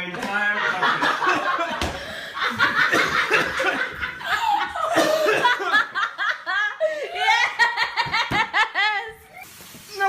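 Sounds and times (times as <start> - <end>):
people laughing: 0.2 - 9.2.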